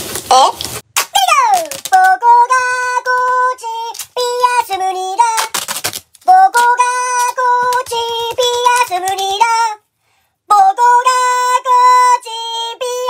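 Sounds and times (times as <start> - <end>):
high-pitched voice singing: 0.3 - 5.6, 6.2 - 9.8, 10.5 - 13.0.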